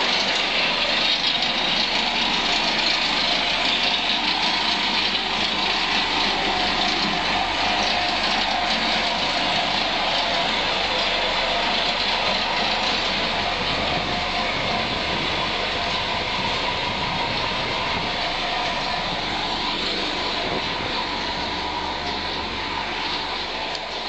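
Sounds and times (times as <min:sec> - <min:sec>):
construction machinery engine: 0:00.0 - 0:24.0.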